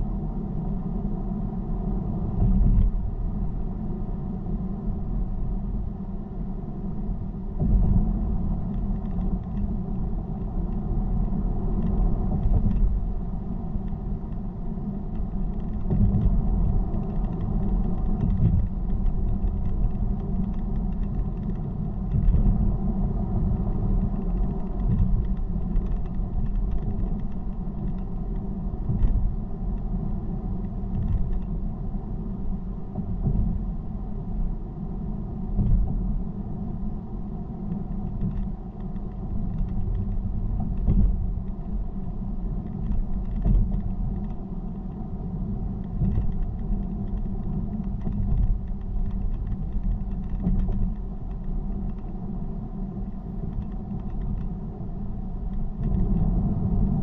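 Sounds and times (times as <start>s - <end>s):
tyre road noise: 0.0s - 57.0s.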